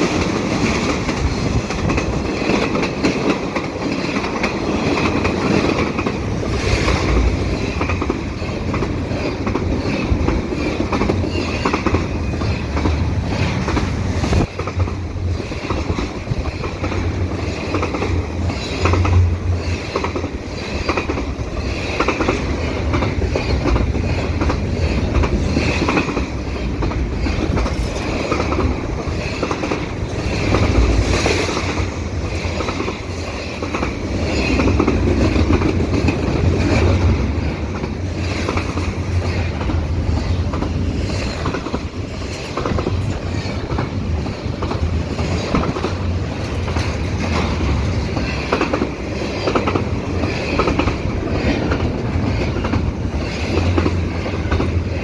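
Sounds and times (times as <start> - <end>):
freight train rumble: 0.0 - 55.0.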